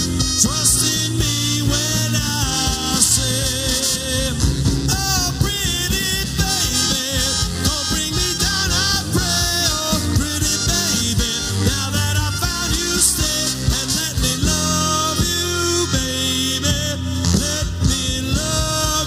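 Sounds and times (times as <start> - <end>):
horn section: 0.0 - 19.0
live pop band playing: 0.0 - 19.0.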